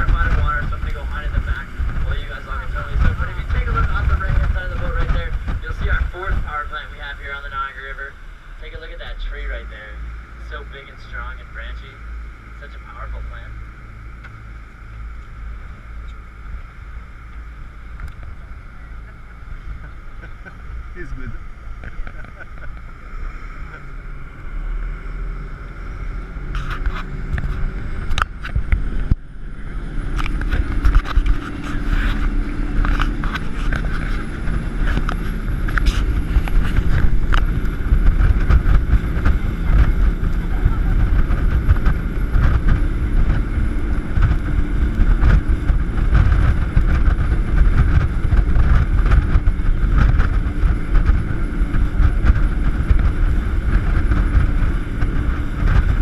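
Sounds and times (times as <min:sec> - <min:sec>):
jet boat engine at speed: 0:00.0 - 0:56.0
wind rumble on microphone: 0:00.0 - 0:56.0.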